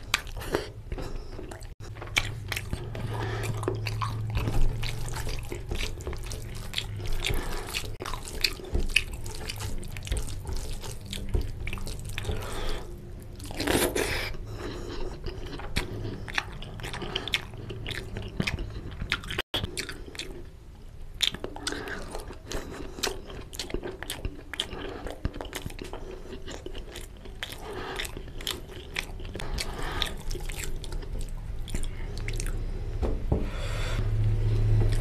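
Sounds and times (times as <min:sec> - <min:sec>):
wet chewing and lip smacks: 0:00.0 - 0:20.5, 0:21.1 - 0:32.6.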